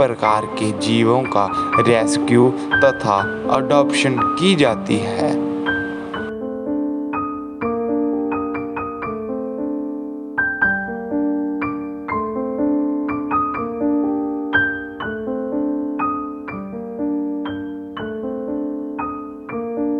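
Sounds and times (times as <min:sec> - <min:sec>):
gentle piano music: 0:00.0 - 0:19.9.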